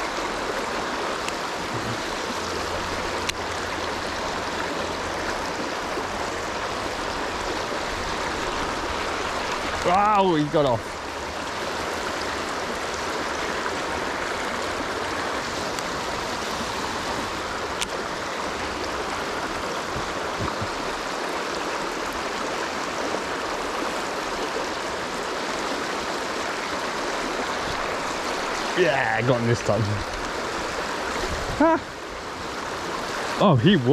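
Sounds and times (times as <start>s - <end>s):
river water rushing over rocks: 0.0s - 33.9s.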